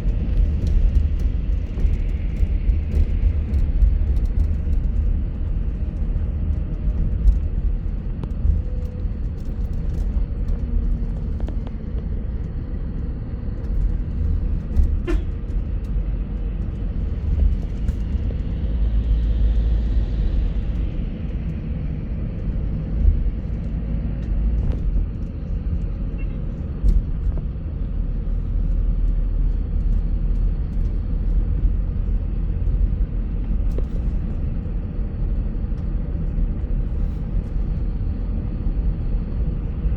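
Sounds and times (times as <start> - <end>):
bus road and engine rumble: 0.0 - 39.9.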